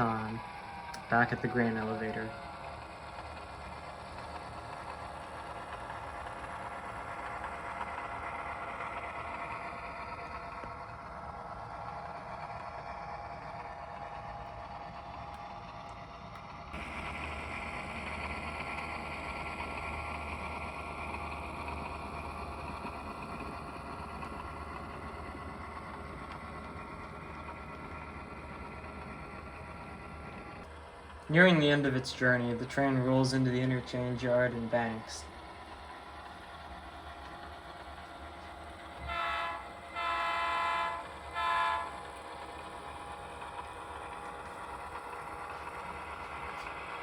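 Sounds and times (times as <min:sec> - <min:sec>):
faint train clatter: 0:00.0 - 0:47.0
model locomotive diesel engine sound: 0:00.0 - 0:47.0.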